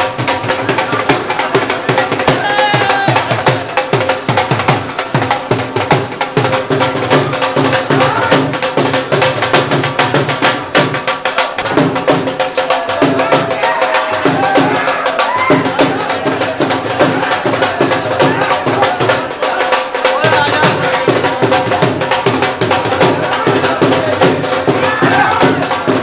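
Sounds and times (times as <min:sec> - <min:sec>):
clattering hand percussion: 0:00.0 - 0:26.0
fast steady drumming: 0:00.0 - 0:26.0.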